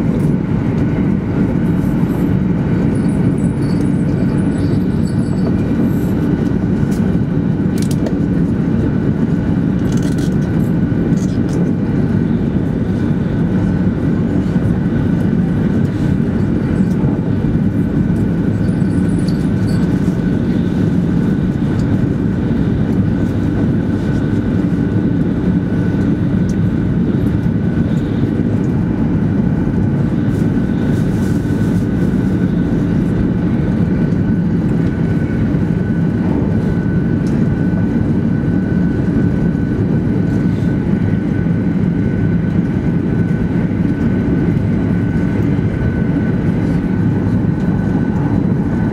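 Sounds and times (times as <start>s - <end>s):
thin steady whine: 0.0s - 48.9s.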